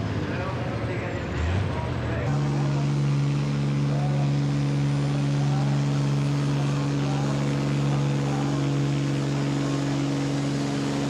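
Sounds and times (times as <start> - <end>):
engine droning steadily: 0.0 - 11.0.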